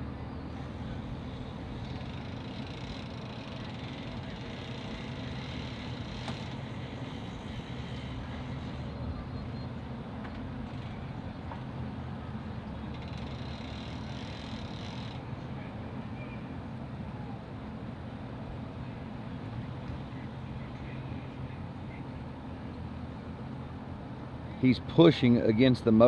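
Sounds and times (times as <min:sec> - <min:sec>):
outboard motors droning: 0:00.0 - 0:26.0.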